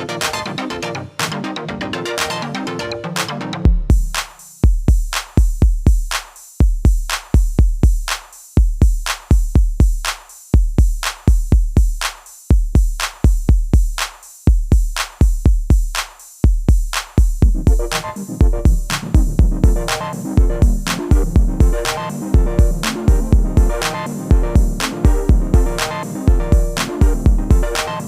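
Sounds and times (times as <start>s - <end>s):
drum machine kick drum beat: 3.2s - 28.0s.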